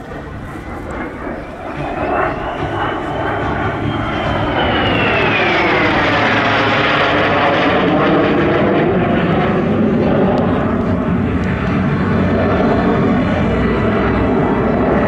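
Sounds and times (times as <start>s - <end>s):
jet flying past: 0.0s - 15.0s.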